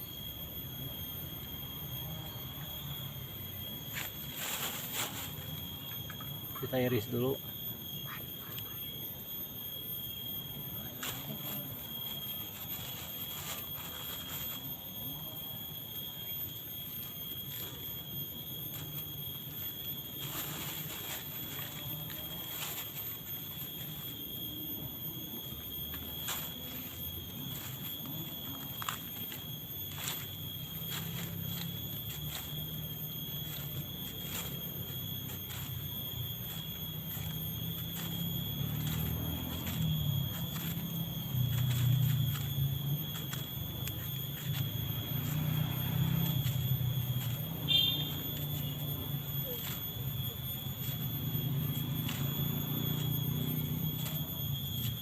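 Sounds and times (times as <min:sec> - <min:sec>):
steady high-pitched whine: 0:00.0 - 0:55.0.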